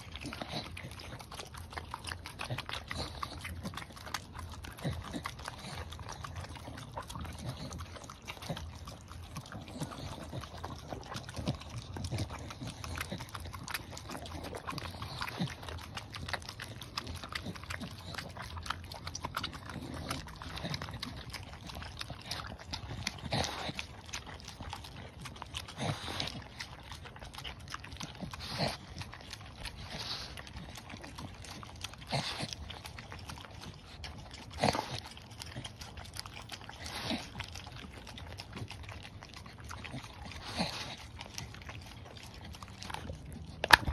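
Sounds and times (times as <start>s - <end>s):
dogs licking and lapping: 0.0s - 43.9s.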